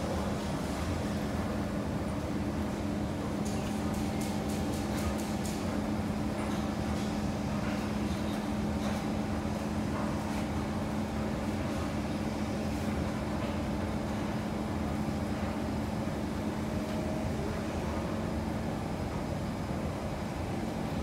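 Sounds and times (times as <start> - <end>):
train running noise with hum: 0.0 - 21.0.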